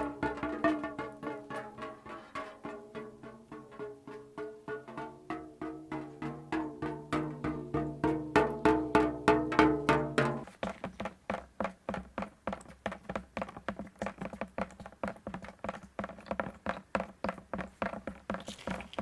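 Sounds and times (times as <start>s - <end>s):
raindrops tapping in metal can: 0.0s - 19.0s.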